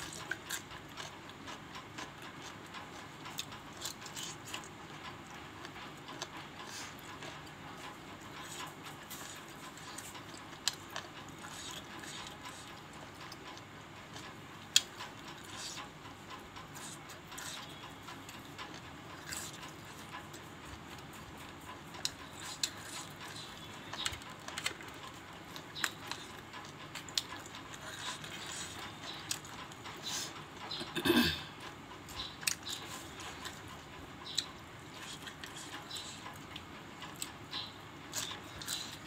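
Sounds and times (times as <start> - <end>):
person chewing: 0.0 - 39.0.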